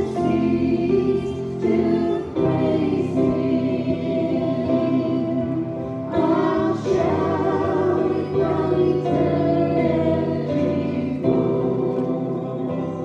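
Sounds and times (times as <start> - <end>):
group singing a gospel hymn: 0.0 - 13.0.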